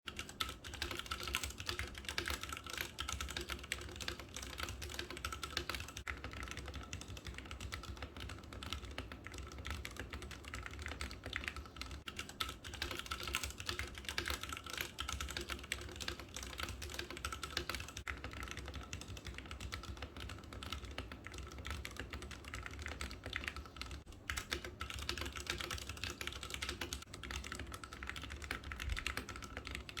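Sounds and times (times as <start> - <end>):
mechanical keyboard typing: 0.1 - 30.0.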